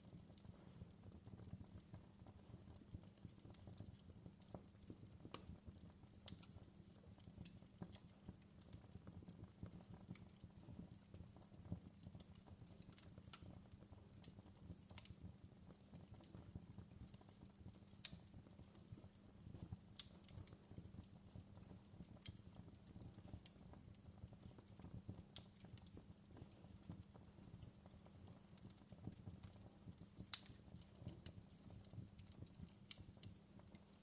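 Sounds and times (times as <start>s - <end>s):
fireplace crackling: 0.0s - 34.0s.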